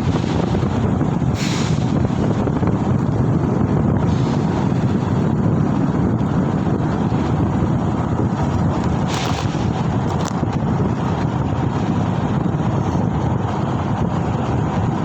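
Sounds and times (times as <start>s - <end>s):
vehicle and road noise: 0.0s - 15.0s
wind rushing over microphone: 0.0s - 15.0s.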